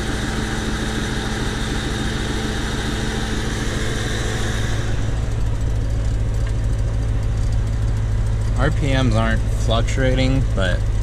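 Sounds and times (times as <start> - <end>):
car engine idling roughly: 0.0 - 11.0.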